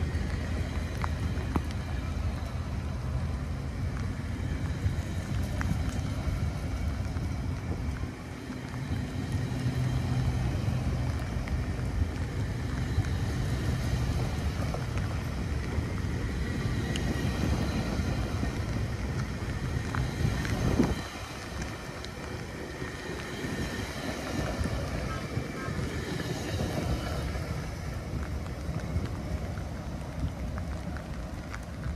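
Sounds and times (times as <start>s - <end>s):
train wheels rumbling on rails: 0.0s - 31.9s
wind buffeting microphone: 0.0s - 31.9s.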